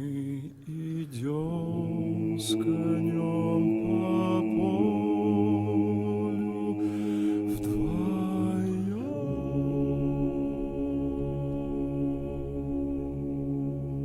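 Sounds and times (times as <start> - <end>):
voices singing held notes: 0.0 - 14.0.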